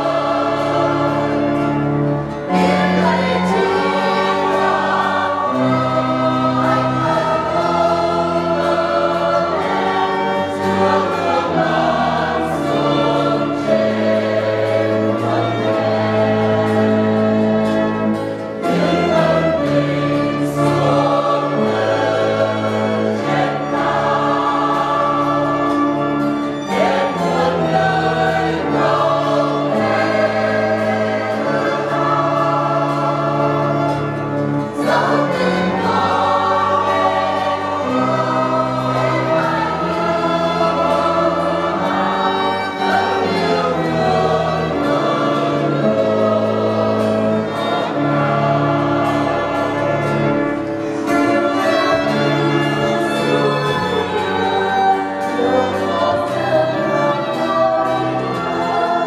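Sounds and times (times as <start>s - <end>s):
church choir singing a hymn: 0.0s - 59.0s
electronic organ chords: 0.0s - 59.0s
guitar: 0.0s - 59.0s
violin: 0.0s - 59.0s.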